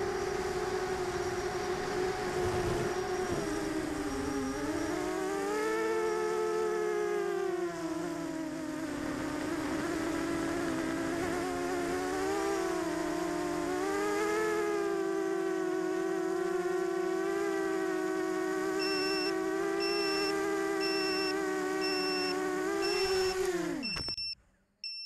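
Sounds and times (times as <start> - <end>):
quadcopter motors buzzing: 0.0 - 24.4.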